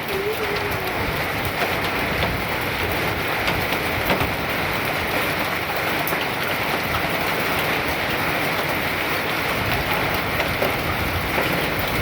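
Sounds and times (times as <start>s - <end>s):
hail striking hard surfaces: 0.0s - 12.0s.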